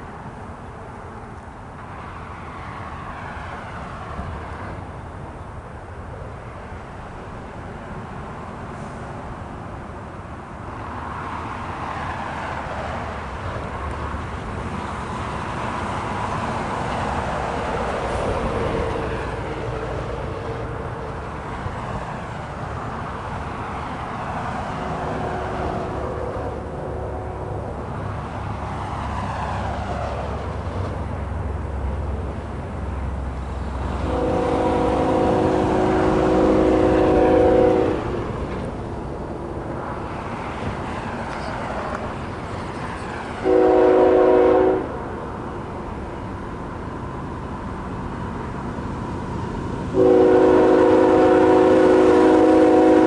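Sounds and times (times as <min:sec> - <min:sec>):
freight train rumble: 0:00.0 - 0:53.0
road traffic passing: 0:00.0 - 0:53.0.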